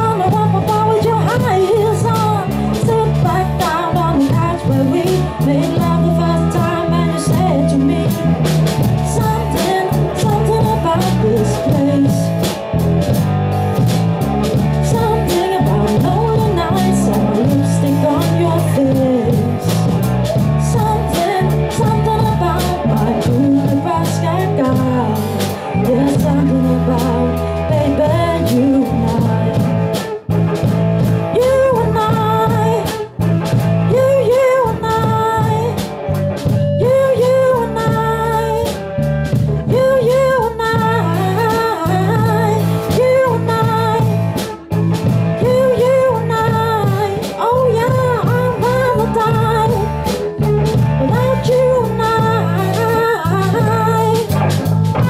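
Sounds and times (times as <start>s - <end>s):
woman singing into microphone: 0.0s - 13.9s, 14.5s - 30.2s, 31.0s - 55.0s
drum kit: 0.0s - 55.0s
electric guitar: 0.0s - 55.0s.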